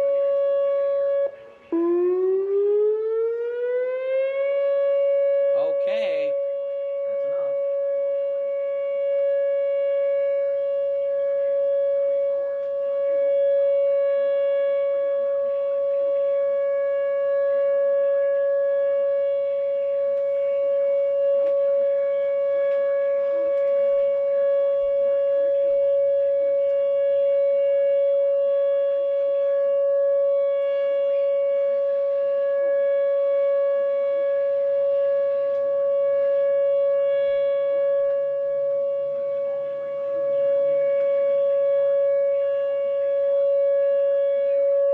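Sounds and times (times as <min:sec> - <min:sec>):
outdoor warning siren steady tone: 0:00.0 - 0:44.9.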